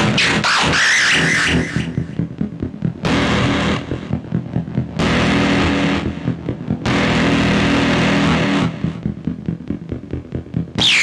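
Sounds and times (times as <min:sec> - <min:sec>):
harsh distorted buzz: 0:00.0 - 0:11.0.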